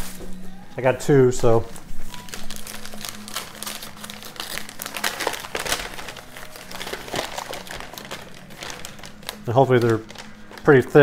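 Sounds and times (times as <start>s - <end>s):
paper wrapping crinkling: 1.3s - 11.0s.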